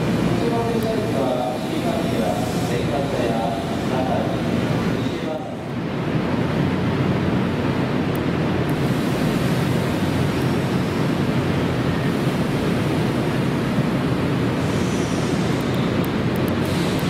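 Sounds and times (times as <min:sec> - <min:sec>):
train air conditioning rushing: 0:00.0 - 0:17.0.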